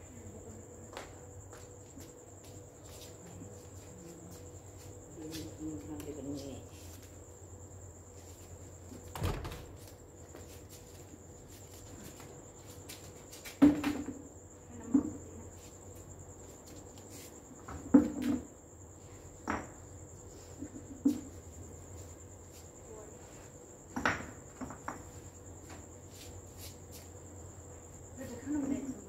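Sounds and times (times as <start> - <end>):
crickets chirring: 0.0 - 29.0.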